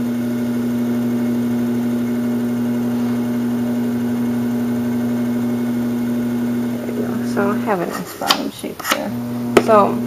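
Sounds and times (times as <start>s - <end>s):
electric pottery wheel humming: 0.0s - 10.0s.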